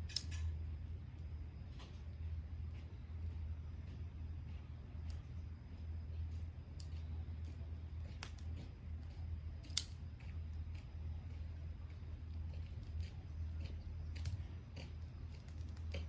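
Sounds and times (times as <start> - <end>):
wood fire crackling and popping: 0.0 - 2.9, 4.6 - 16.0
faint insect chirring: 0.0 - 16.0
steady low hum: 0.0 - 16.0.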